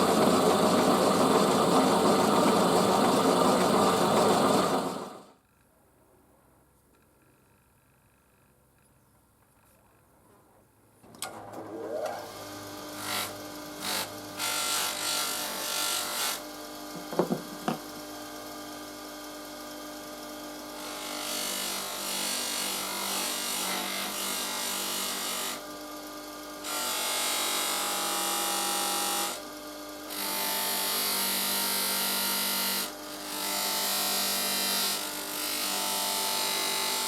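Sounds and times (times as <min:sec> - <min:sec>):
power tool motor running: 0:00.0 - 0:05.3, 0:11.2 - 0:37.0.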